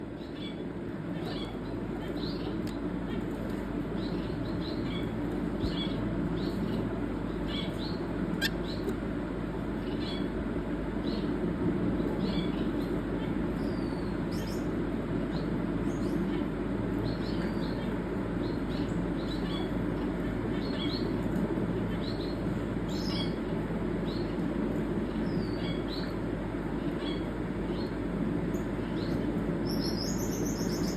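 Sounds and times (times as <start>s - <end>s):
low background rumble: 0.0s - 30.9s.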